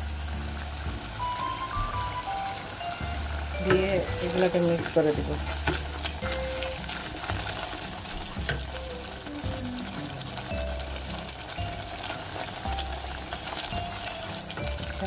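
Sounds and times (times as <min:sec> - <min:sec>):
paste sizzling in oil: 0:00.0 - 0:15.0.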